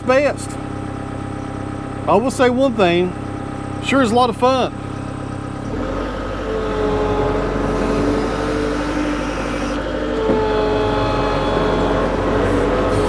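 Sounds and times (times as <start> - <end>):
diesel engine running: 0.0 - 13.0
steady whine: 0.0 - 13.0.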